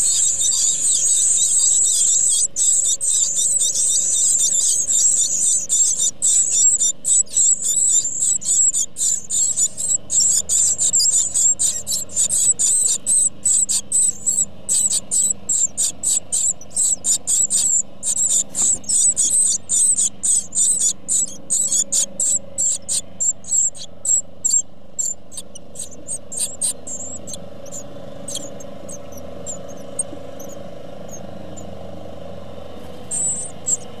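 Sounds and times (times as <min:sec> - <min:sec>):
nestlings cheeping: 0:00.0 - 0:34.0.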